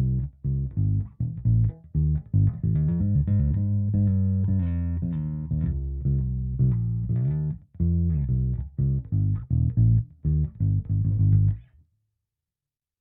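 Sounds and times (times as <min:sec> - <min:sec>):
electric bass guitar notes: 0:00.0 - 0:11.7.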